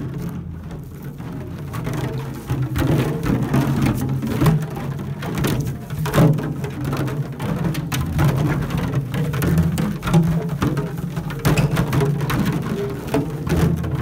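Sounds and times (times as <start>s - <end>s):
muffled resonant jug tones: 0.0s - 14.0s
plastic jugs clattering: 0.0s - 14.0s.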